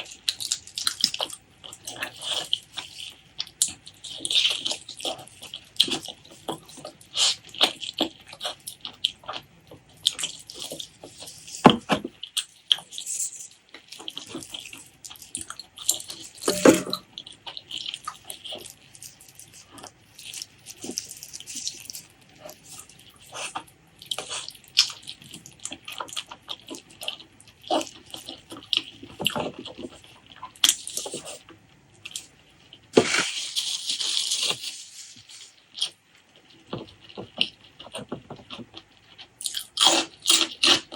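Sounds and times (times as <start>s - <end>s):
chewing and lip smacks: 0.0s - 40.9s.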